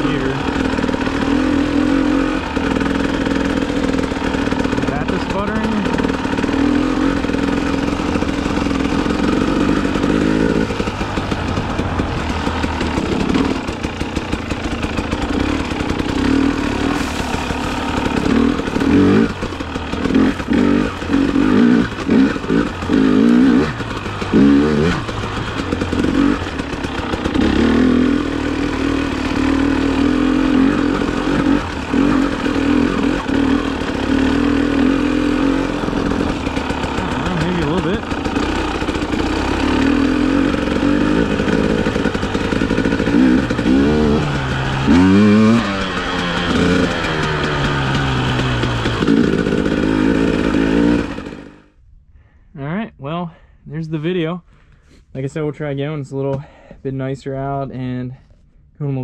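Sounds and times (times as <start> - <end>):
two-stroke dirt bike engine: 0.0 - 52.4.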